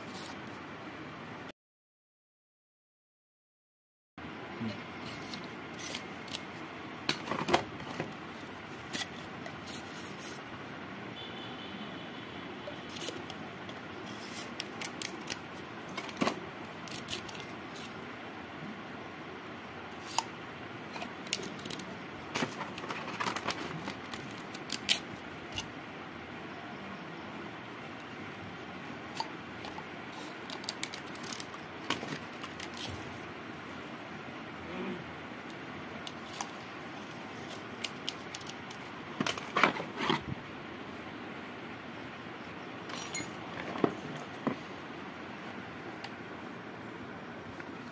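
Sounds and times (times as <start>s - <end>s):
steady background hiss: 4.2s - 47.9s.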